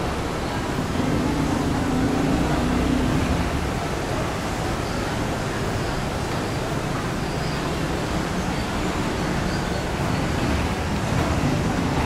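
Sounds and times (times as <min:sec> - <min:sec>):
city background rushing noise: 0:00.0 - 0:12.0.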